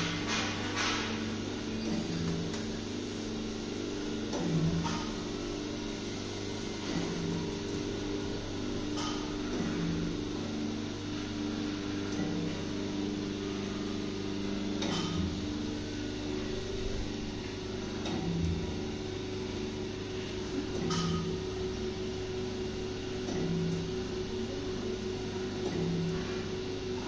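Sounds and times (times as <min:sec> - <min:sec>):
dough cutting machine humming: 0:00.0 - 0:27.0.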